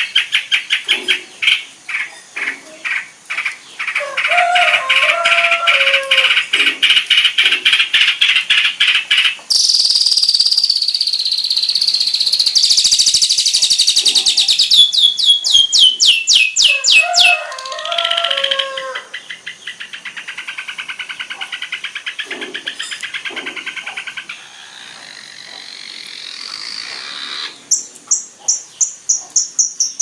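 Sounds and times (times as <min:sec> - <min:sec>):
bird singing chattering trills: 0:00.0 - 0:30.0.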